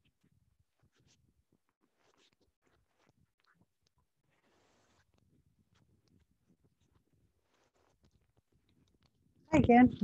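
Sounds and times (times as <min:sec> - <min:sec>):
soft rustle: 0:00.0 - 0:09.8.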